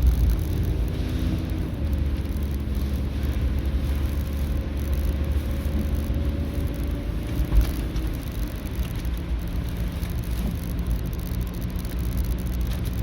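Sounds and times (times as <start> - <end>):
engine and road rumble: 0.0 - 13.0
faint engine hum: 0.0 - 13.0.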